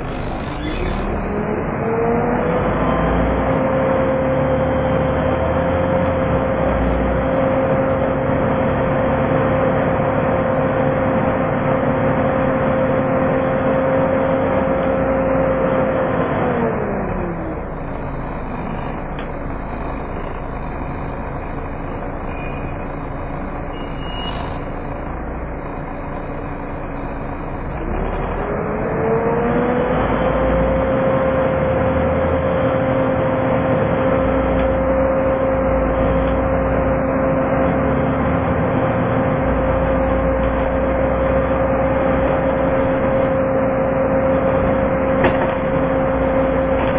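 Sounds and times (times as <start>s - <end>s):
engine and road noise: 0.0s - 46.9s.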